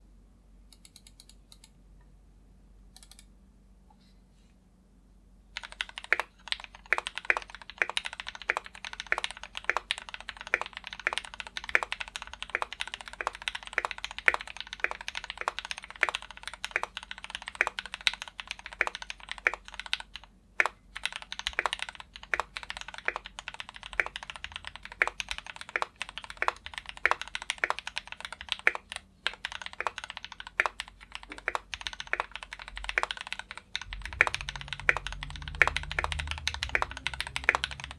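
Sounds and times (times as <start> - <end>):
typing on mechanical keyboard: 5.6 - 37.9.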